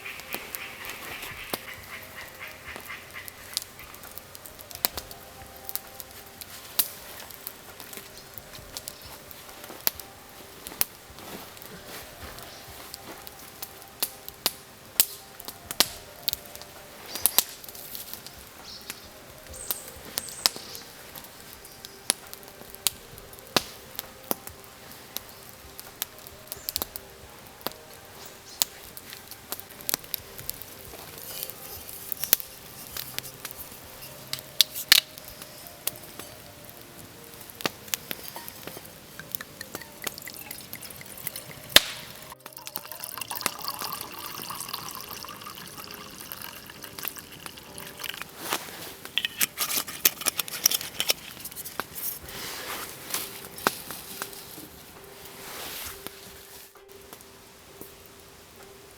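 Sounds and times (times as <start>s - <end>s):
faint steady background noise: 0.0s - 58.9s.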